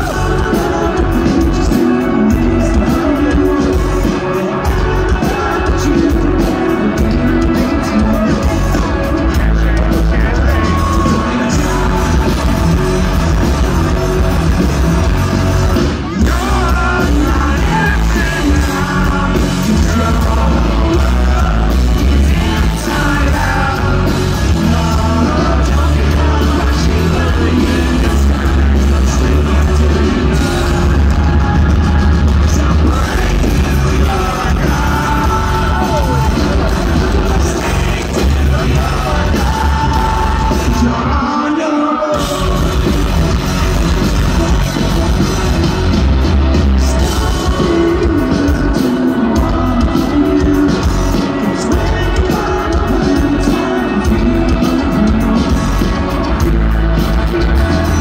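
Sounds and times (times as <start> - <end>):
live rock band with singer: 0.0 - 58.0.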